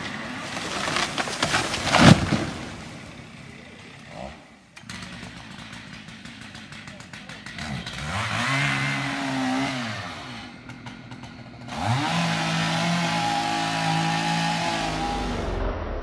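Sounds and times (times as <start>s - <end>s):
chainsaw revving: 0.0s - 15.7s.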